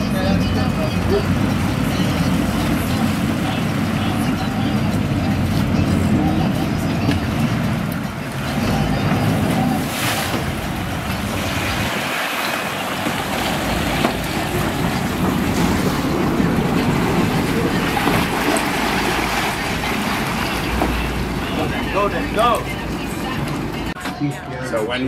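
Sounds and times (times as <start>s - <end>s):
propeller wash churning water: 0.0s - 23.9s
boat engines running: 0.0s - 24.1s.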